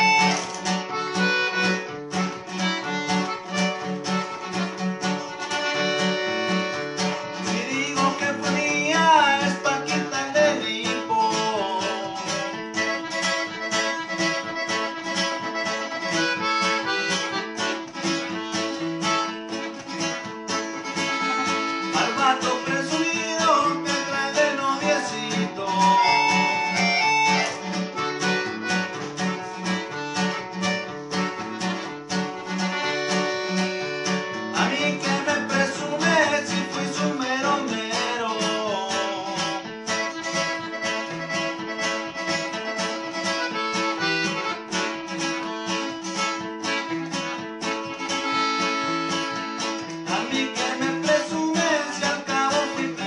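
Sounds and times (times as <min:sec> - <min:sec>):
accordion melody: 0:00.0 - 0:53.0
strummed acoustic guitar: 0:00.0 - 0:53.0.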